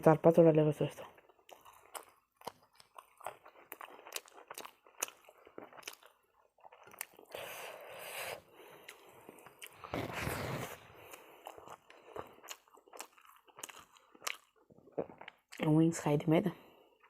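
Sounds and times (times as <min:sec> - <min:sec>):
wet chewing with crunches: 0:01.0 - 0:07.8, 0:08.6 - 0:15.7.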